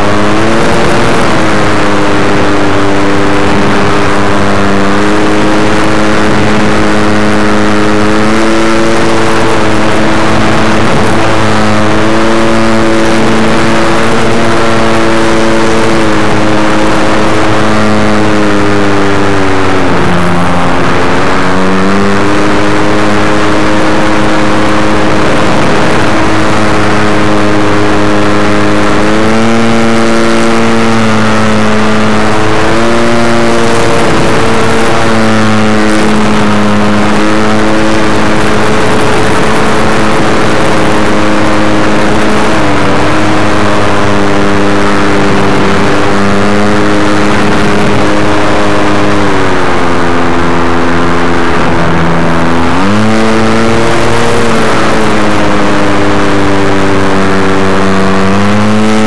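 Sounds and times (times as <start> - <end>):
electric motor and propeller drone: 0.0 - 59.0.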